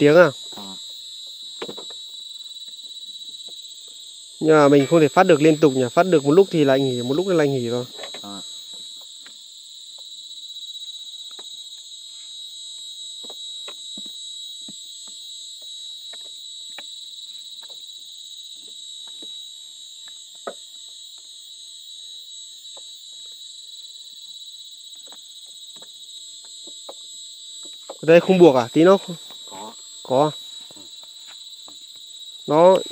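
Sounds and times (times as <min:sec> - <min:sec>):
insect chorus drone: 0:00.0 - 0:32.9.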